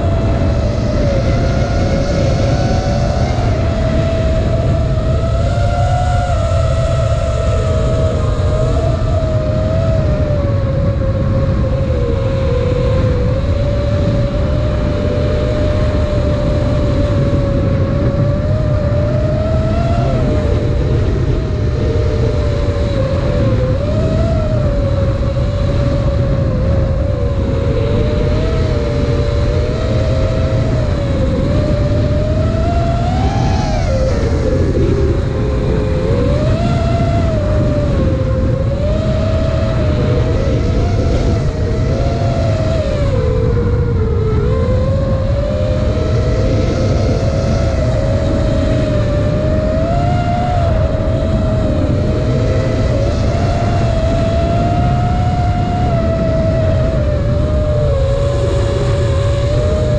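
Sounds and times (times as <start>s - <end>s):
quadcopter motors whining: 0.0s - 59.9s
wind rumble on microphone: 0.0s - 59.9s.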